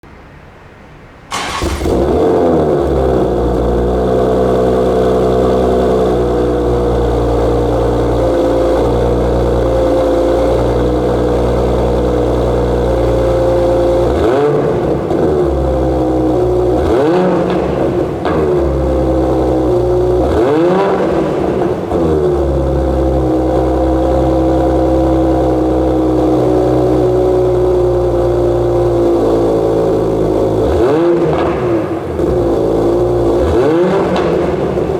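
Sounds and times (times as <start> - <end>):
car engine starting and idling: 1.2 - 34.9
engine throttle blips: 1.3 - 34.9.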